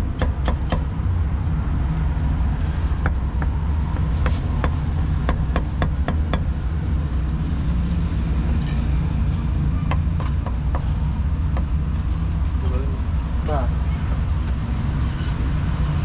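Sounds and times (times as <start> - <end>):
low rumble of street traffic: 0.0 - 16.0.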